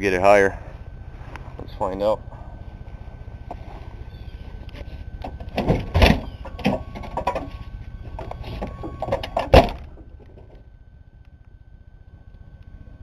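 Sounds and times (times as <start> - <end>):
high warning tone: 0.0 - 13.0.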